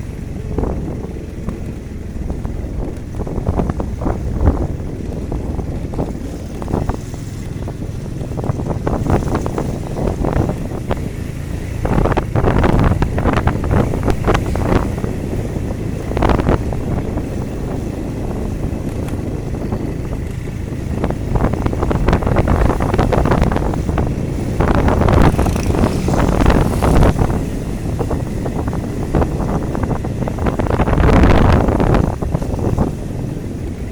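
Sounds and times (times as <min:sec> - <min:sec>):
vehicle on wet road: 0:00.0 - 0:33.9
wind buffeting microphone: 0:00.0 - 0:33.9.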